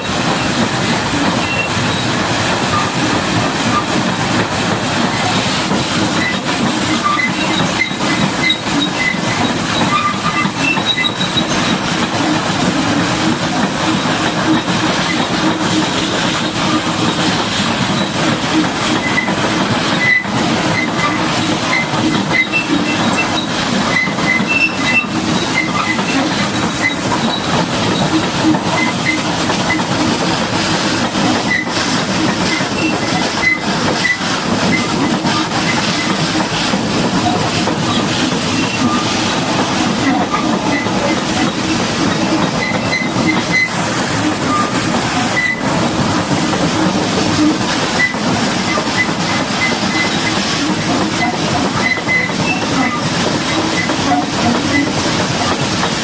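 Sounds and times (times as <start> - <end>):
high-pressure water jet hissing: 0.0 - 56.0.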